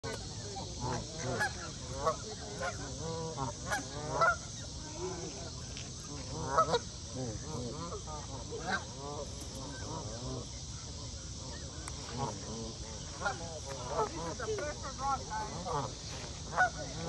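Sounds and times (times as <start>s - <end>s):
steady hiss: 0.0s - 17.0s
geese honking: 0.1s - 17.0s.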